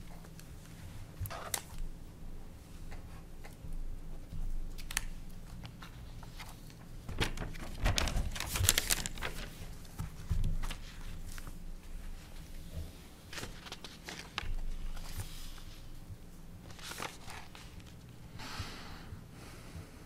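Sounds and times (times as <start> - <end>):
papers rustling and shuffling: 0.0 - 1.9, 2.8 - 18.2.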